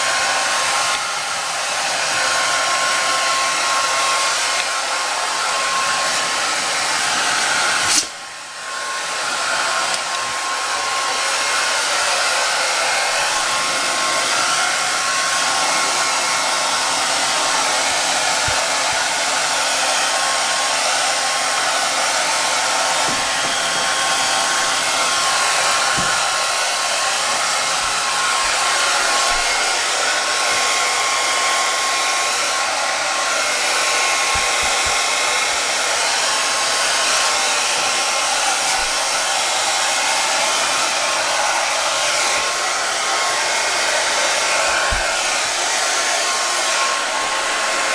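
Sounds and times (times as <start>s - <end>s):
hair dryer blowing: 0.0s - 47.9s.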